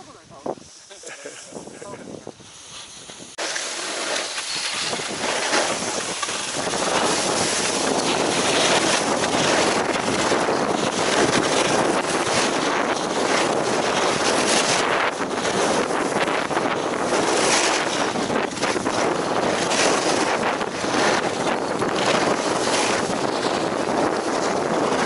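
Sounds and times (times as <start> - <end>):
wind rushing over microphone: 0.0 - 25.0
skis scraping on snow: 0.6 - 25.0.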